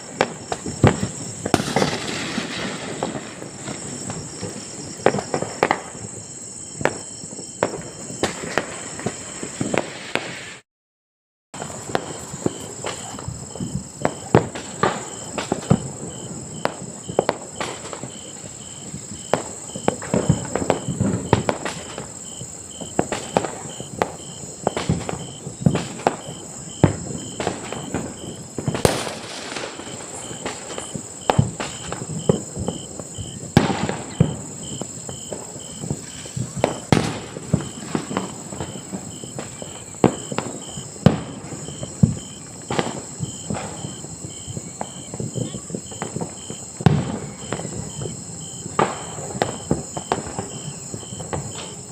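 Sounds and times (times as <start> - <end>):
distant firecrackers popping: 0.0 - 10.6, 11.6 - 51.9.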